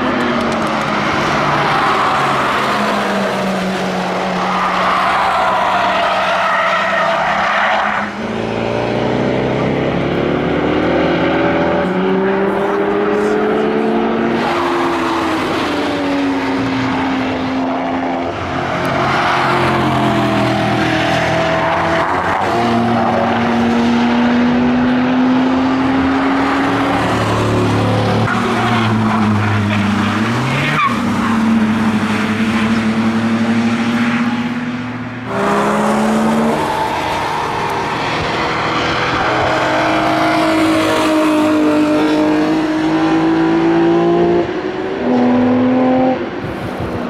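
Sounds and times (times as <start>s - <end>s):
race car engines revving: 0.0s - 47.0s
tyre and road noise: 0.0s - 47.0s.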